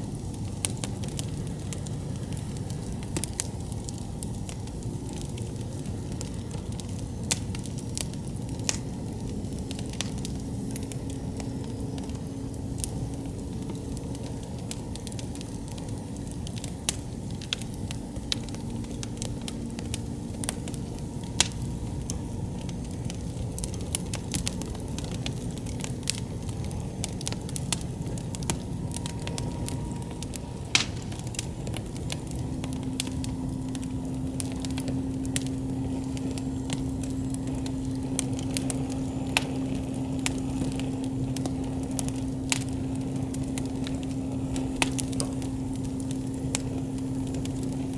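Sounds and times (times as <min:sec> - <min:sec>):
burning wood popping and crackling: 0:00.0 - 0:47.9
campfire flames rushing: 0:00.0 - 0:47.9.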